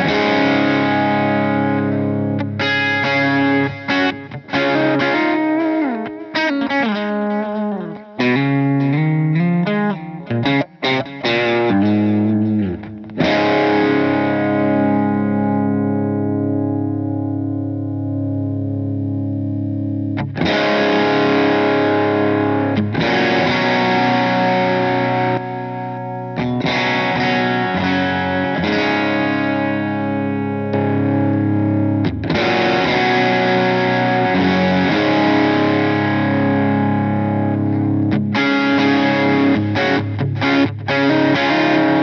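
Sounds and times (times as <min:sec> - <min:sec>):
overdriven electric guitar chords: 0:00.0 - 0:42.0.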